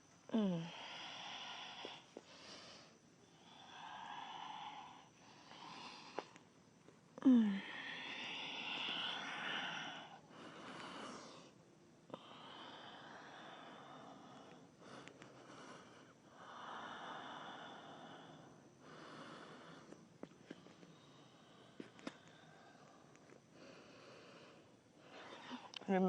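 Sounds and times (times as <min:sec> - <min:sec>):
deep breathing: 0:00.4 - 0:06.4, 0:07.2 - 0:25.8.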